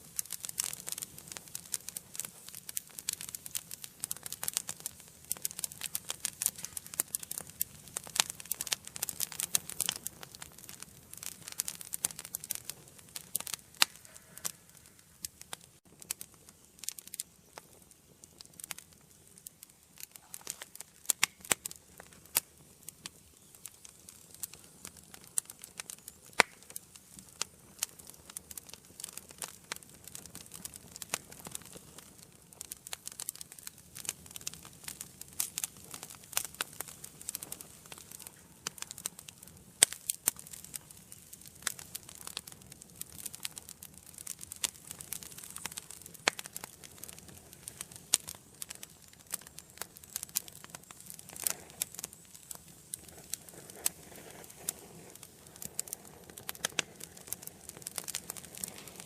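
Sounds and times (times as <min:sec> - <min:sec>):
low fire hiss: 0:00.0 - 0:59.0
wood fire crackling and popping: 0:00.0 - 0:59.0.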